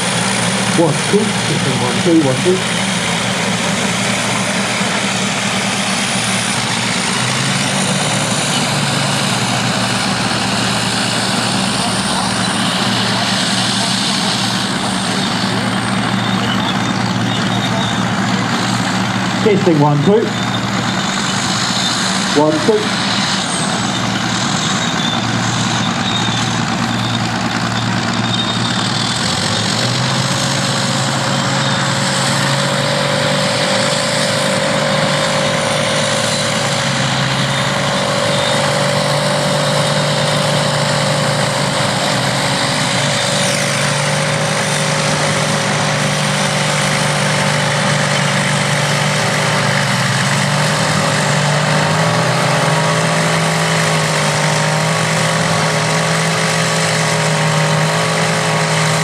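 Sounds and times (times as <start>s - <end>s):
bulldozer engines running: 0.0s - 59.0s.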